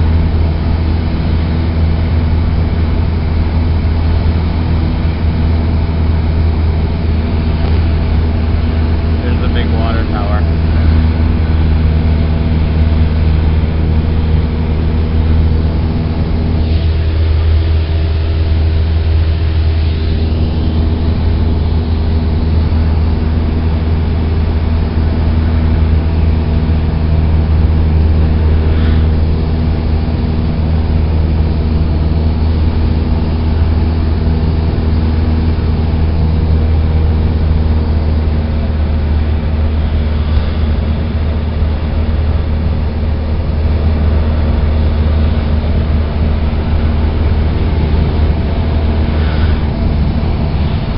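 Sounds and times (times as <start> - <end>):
airplane engine and propeller drone: 0.0 - 50.9.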